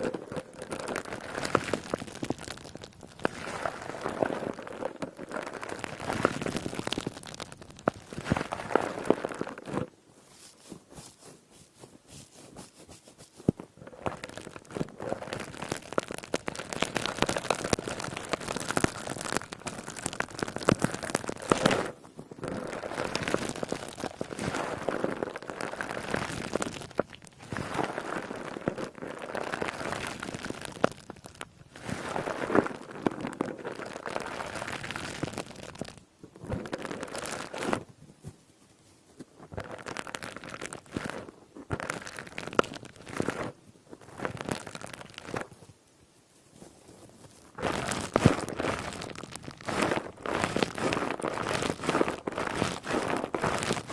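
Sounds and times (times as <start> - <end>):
sponge squeezed crackling: 0.0 - 38.0, 39.2 - 45.6, 46.6 - 53.9.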